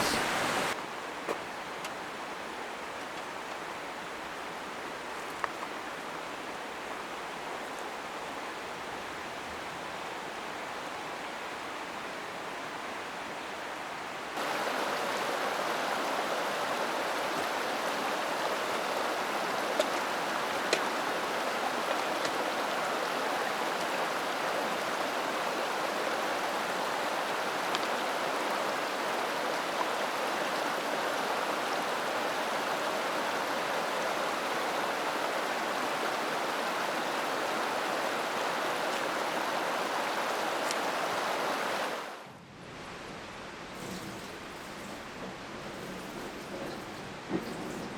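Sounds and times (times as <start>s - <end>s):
mountain stream flowing: 0.0s - 47.9s.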